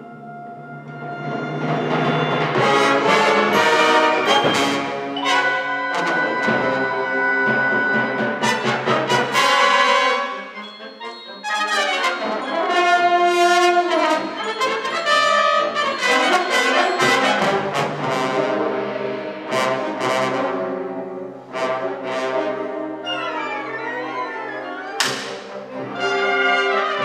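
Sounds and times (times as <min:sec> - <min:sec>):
wind band playing: 0:00.0 - 0:27.0
held brass chords: 0:01.2 - 0:24.3, 0:25.2 - 0:27.0.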